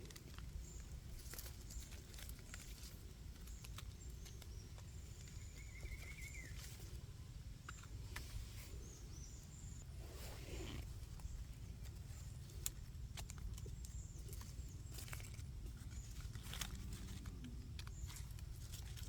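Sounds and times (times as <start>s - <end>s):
rustling in forest litter: 0.0s - 19.0s.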